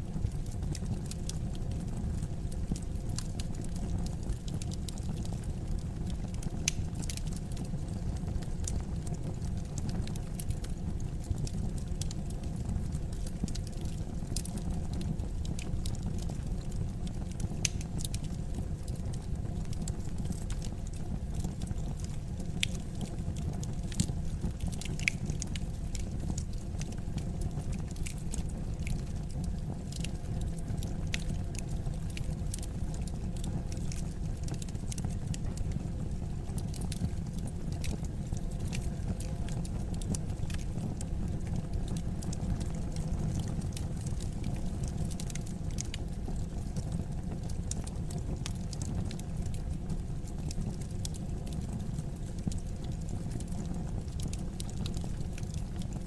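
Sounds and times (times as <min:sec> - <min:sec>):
low rumble of burning fire: 0:00.0 - 0:56.0
wood fire crackling: 0:00.0 - 0:56.0.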